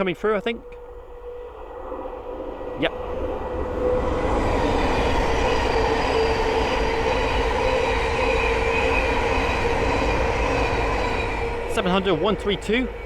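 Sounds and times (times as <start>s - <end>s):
train wheels rumbling on rail: 0.0s - 13.0s
train whine: 0.0s - 13.0s.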